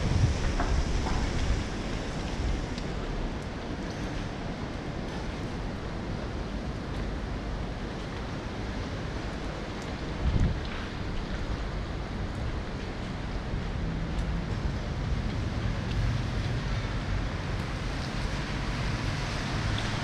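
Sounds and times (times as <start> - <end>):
rain falling on pavement: 0.0 - 20.0.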